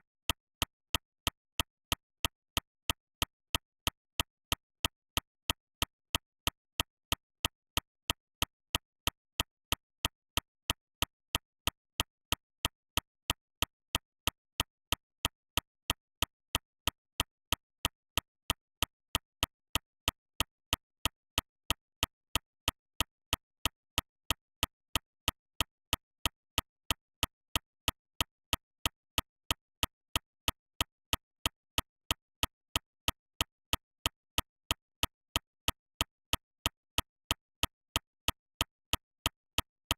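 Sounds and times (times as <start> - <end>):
evenly spaced sharp clicks: 0.0 - 39.9.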